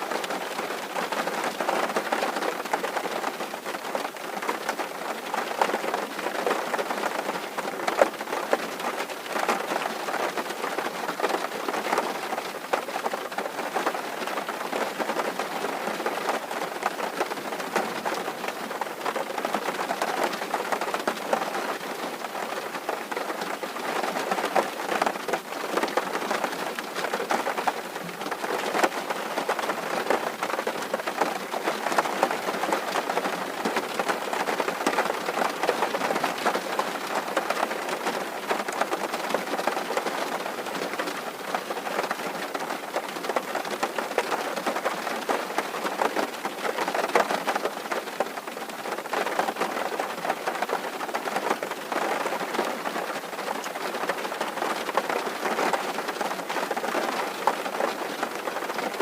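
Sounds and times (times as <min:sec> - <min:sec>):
rain falling on a tin roof: 0:00.0 - 0:59.0.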